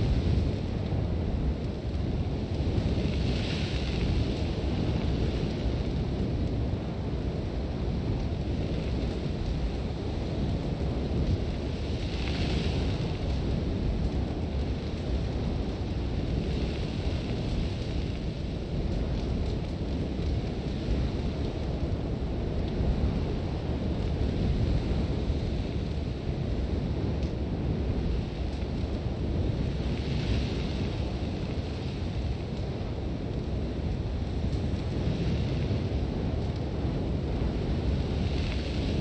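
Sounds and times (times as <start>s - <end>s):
heavy wind rumble: 0.0s - 39.0s.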